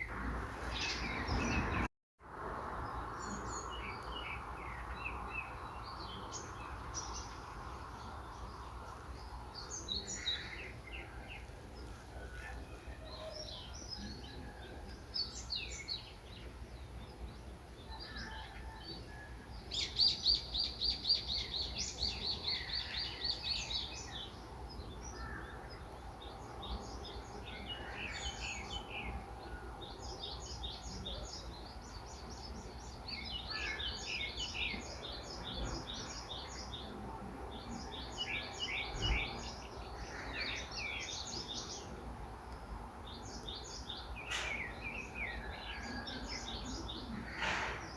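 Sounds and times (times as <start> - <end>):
songbirds chirping and singing: 0.0 - 47.9
low background noise: 0.1 - 47.9.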